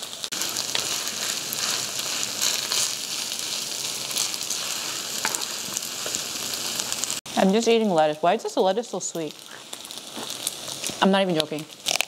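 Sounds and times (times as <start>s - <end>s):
rice sizzling in hot stone pan: 0.0s - 12.0s.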